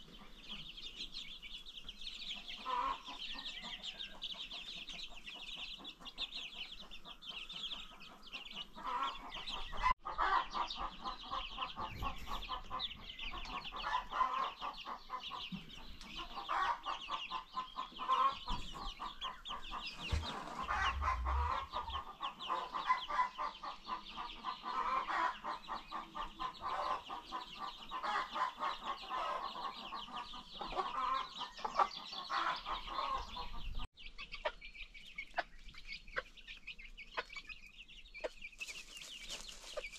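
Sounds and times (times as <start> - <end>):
baby chicks peeping: 0.0 - 39.9
chicken clucking: 0.0 - 39.9.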